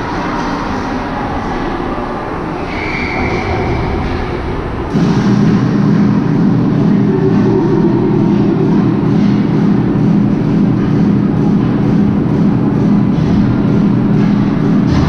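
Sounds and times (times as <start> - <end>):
ice rink rumbling ambience: 0.0 - 15.0
low hum: 0.0 - 15.0.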